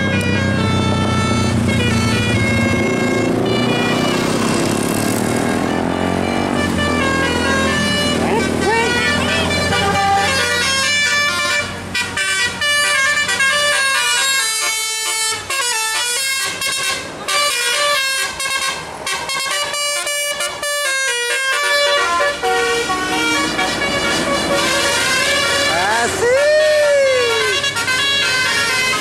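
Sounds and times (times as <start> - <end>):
musical air horn tune: 0.0 - 26.1, 27.0 - 29.0.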